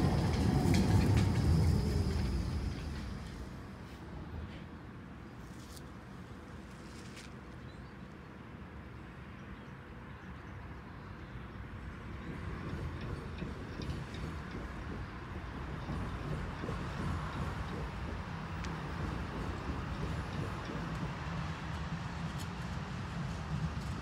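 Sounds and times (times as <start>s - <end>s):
tram rumbling: 0.0s - 7.9s, 10.0s - 24.0s
rail vehicle approaching: 0.0s - 24.0s
street noise: 0.0s - 24.0s.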